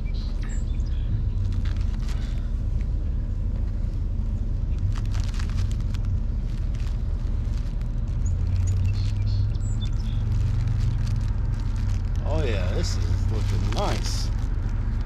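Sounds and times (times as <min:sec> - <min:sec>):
steady low rumble: 0:00.0 - 0:15.0
paper and plastic crinkling: 0:01.4 - 0:02.9, 0:03.5 - 0:15.0.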